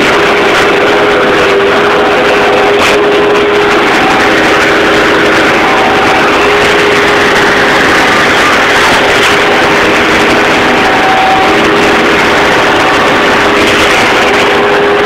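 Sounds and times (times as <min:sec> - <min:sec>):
loader engine running: 0:00.0 - 0:15.0
steady hum: 0:00.0 - 0:15.0.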